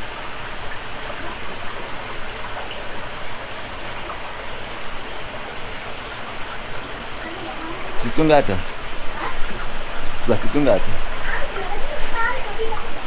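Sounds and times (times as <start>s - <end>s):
creek water over rocks: 0.0s - 13.0s.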